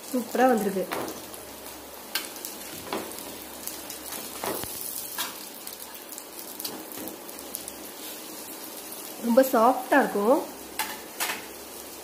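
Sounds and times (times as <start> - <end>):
bread sizzling in oil: 0.0 - 12.0.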